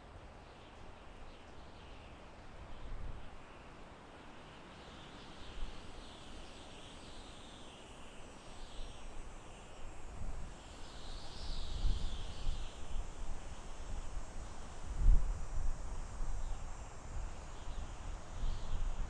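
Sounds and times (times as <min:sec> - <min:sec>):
gentle wind in forest: 0:00.0 - 0:19.0.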